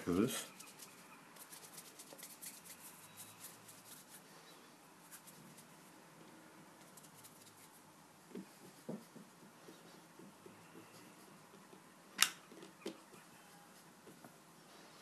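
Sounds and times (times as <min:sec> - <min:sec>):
hands rubbing play dough: 0:00.4 - 0:04.4, 0:05.0 - 0:06.0, 0:06.8 - 0:14.2.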